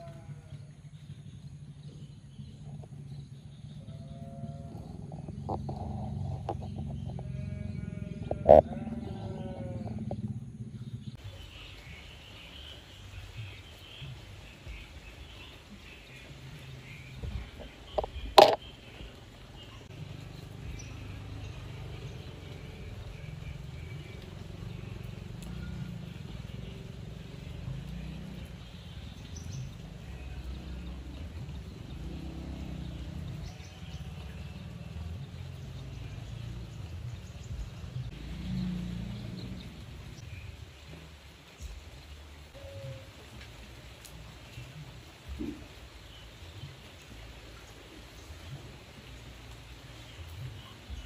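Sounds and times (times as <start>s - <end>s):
low background rumble: 0.0s - 47.3s
small birds chirping: 0.0s - 51.0s.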